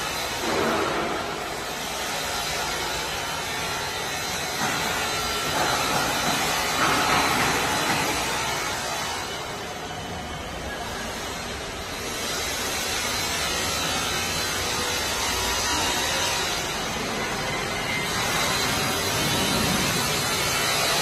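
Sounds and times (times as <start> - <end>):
factory background hiss: 0.0 - 21.0.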